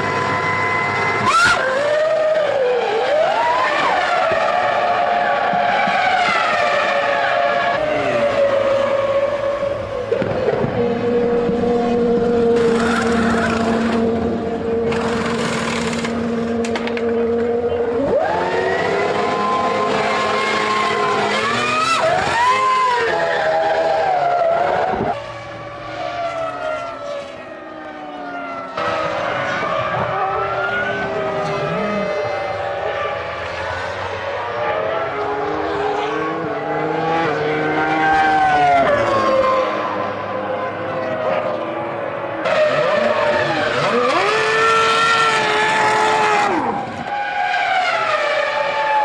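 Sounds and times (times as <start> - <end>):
racing car engines at high revs: 0.0 - 49.0
engine accelerating: 7.7 - 47.1.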